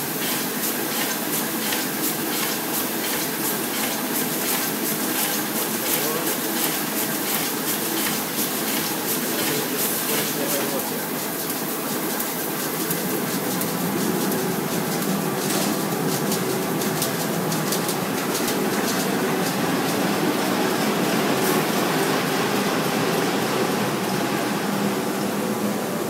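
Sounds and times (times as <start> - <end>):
printing press running: 0.0 - 26.0.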